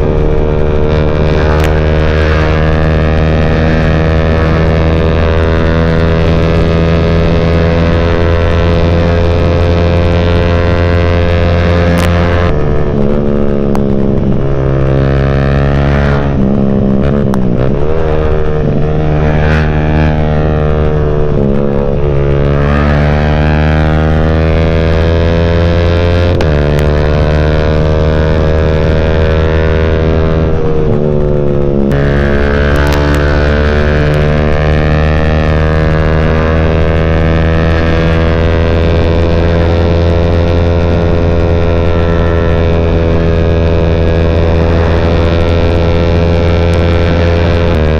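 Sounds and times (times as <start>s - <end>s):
motorcycle engine exhaust note: 0.0s - 47.9s.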